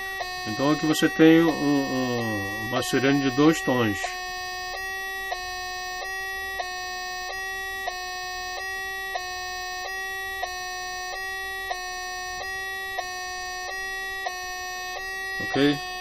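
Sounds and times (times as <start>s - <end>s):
two-tone electronic siren: 0.0s - 16.0s.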